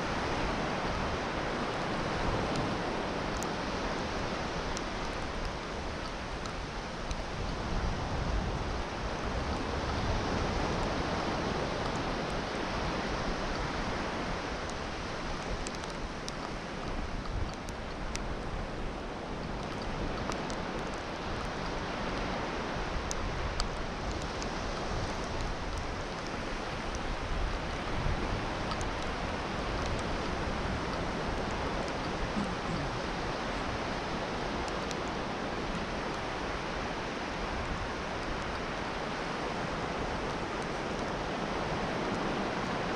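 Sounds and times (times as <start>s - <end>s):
sea surf washing onto beach: 0.0s - 42.9s.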